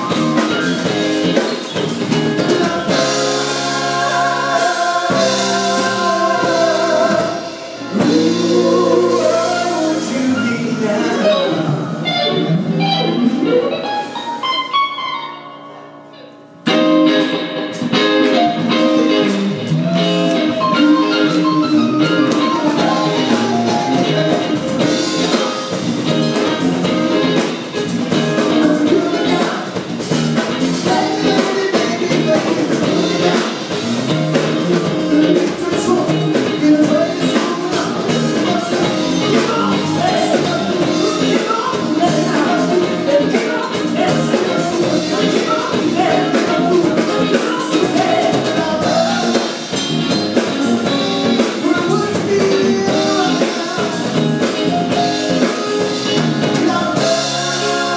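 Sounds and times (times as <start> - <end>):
live band with electric guitar: 0.0 - 57.9
person singing: 2.4 - 14.4, 18.4 - 25.8, 28.1 - 29.9, 30.7 - 57.9.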